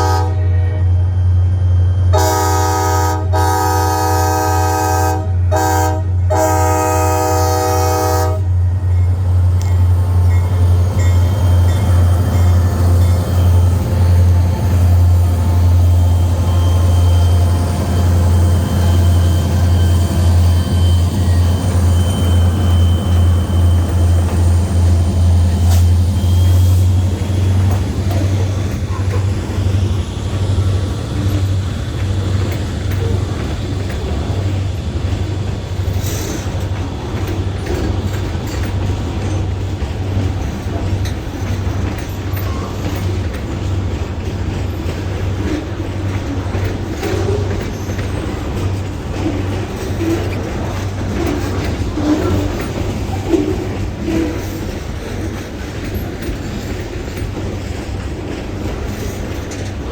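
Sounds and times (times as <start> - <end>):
diesel locomotive engine rumble: 0.0 - 59.9.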